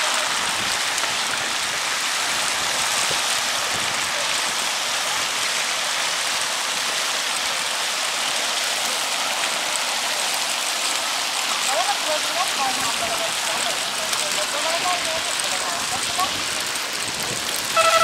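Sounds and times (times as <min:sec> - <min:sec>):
fountain spray hissing onto water: 0:00.0 - 0:18.0.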